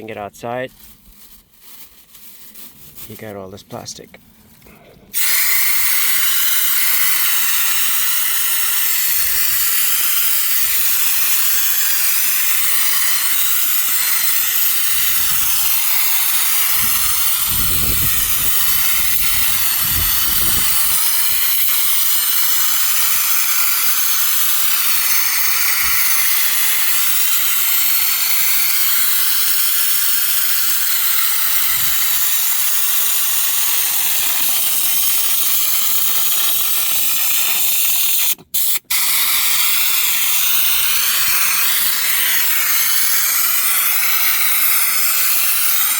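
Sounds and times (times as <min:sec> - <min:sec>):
spray gun hissing: 0:05.2 - 0:45.9.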